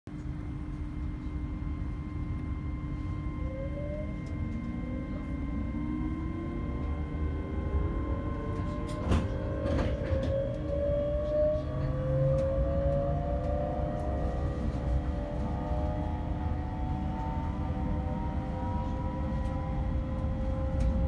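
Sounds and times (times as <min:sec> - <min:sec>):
train traction motor whine: 0:00.2 - 0:21.0.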